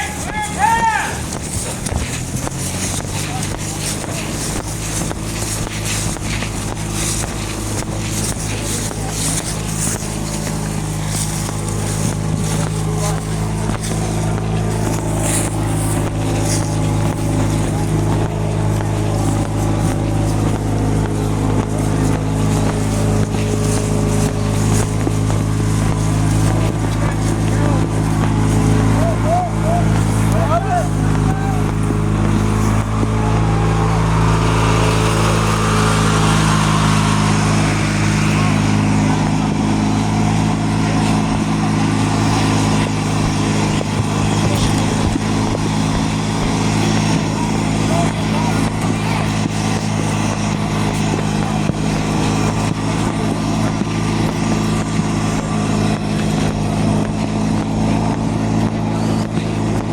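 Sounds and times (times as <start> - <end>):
loud motor drone: 0.0 - 59.9
vehicle engine humming: 0.0 - 59.9.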